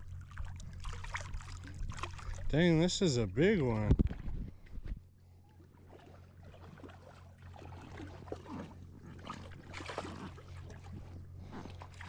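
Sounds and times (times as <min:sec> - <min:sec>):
water splashing and trickling: 0:00.0 - 0:04.3, 0:05.6 - 0:12.0.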